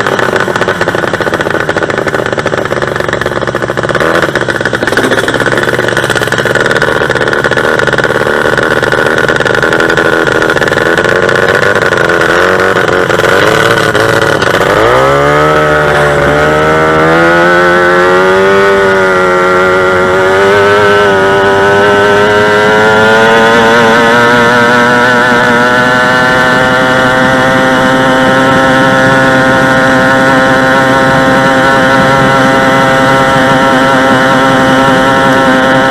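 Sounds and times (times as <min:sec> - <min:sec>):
racing engine revving: 0:00.0 - 0:35.9.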